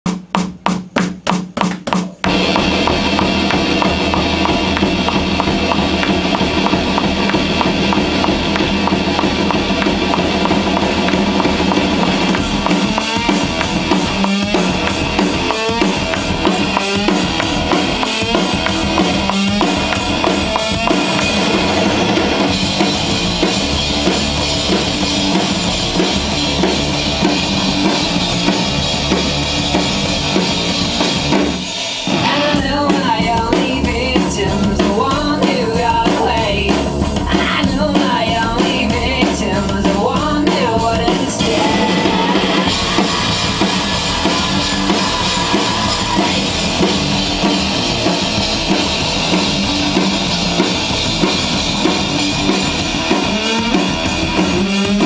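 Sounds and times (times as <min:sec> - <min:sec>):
drum count-in strikes: 0:00.1 - 0:55.0
rock band playing: 0:02.1 - 0:55.0.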